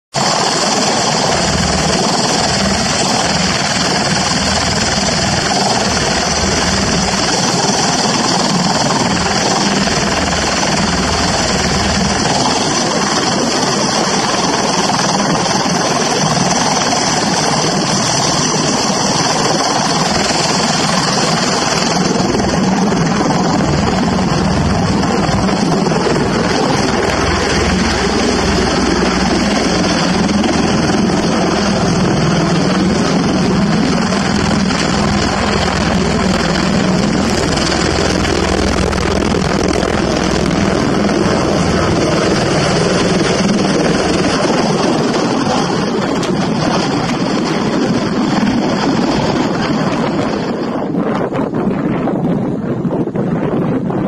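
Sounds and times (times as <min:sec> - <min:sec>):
tiltrotor aircraft engine and rotors: 0:00.1 - 0:54.0.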